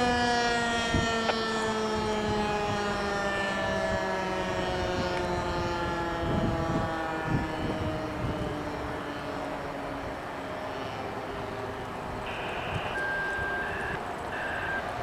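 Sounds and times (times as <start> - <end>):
warning siren winding down: 0.0 - 15.0.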